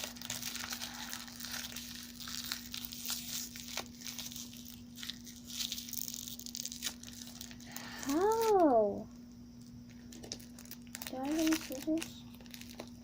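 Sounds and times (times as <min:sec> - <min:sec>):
plastic packaging crinkling: 0:00.0 - 0:08.9, 0:09.6 - 0:13.0
faint steady hum: 0:00.0 - 0:13.0.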